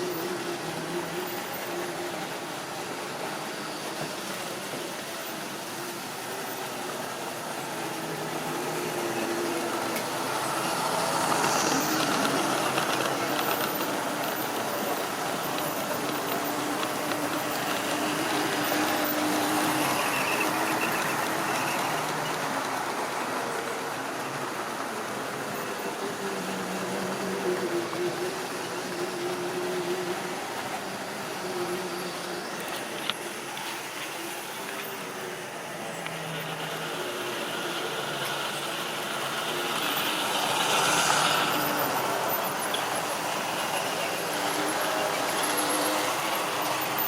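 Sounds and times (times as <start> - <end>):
model train running on track: 0.0 - 47.0.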